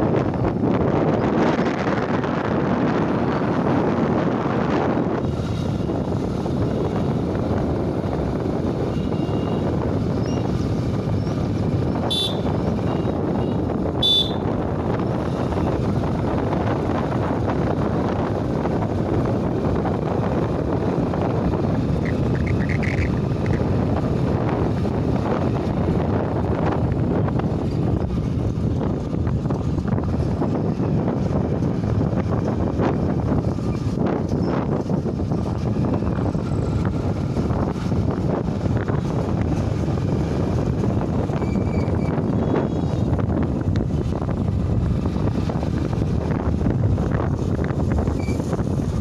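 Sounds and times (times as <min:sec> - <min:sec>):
moving vehicle noise: 0:00.0 - 0:49.0
wind buffeting microphone: 0:00.0 - 0:49.0.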